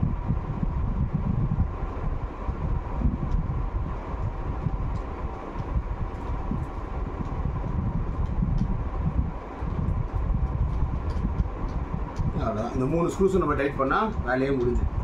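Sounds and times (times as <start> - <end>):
low rumble with faint hum: 0.0 - 15.0.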